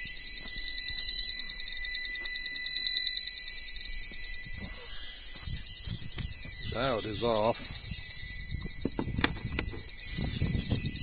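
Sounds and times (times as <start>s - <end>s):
high-pitched electrical whine: 0.0s - 11.0s.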